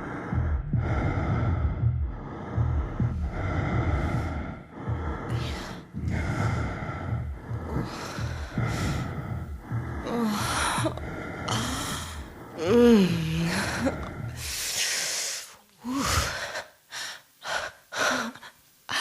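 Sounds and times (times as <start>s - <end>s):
person gasping breaths: 0.0s - 19.0s.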